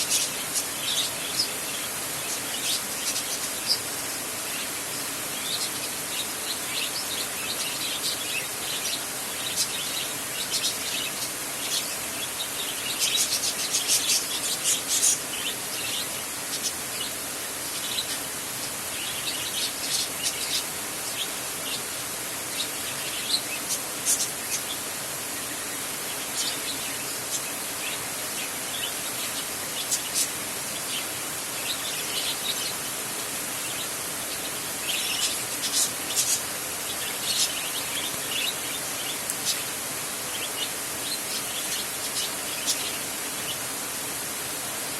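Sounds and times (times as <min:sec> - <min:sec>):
birds chirping: 0:00.0 - 0:44.8
rain on a tin roof: 0:00.0 - 0:44.9.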